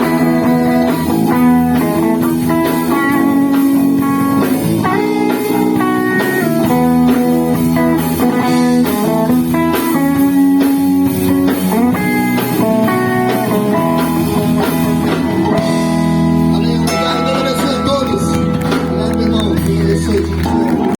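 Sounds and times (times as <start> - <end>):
bass guitar: 0.0 - 21.0
drums: 0.0 - 21.0
electric guitar melody: 0.0 - 21.0.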